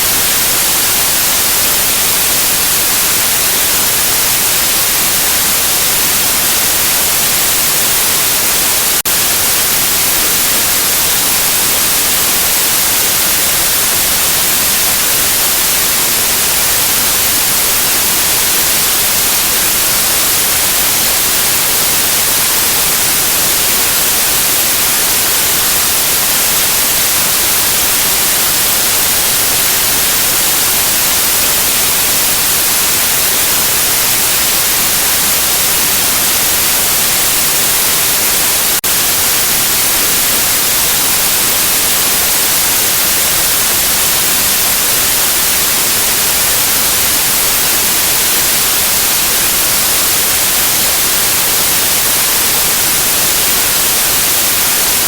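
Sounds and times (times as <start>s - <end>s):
loud white noise hiss: 0.0s - 55.0s.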